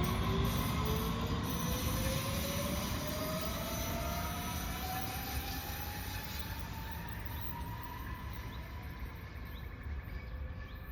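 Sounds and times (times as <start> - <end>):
electric train whine rising: 0.0 - 10.8
train low rumble: 0.0 - 10.9.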